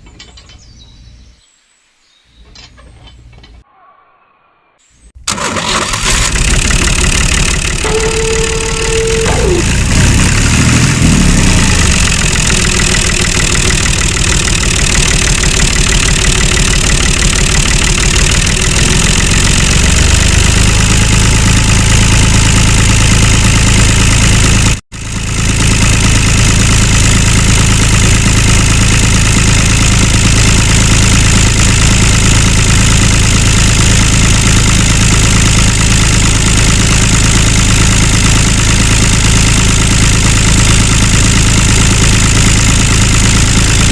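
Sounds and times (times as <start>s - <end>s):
mini tractor engine running: 5.2s - 43.9s.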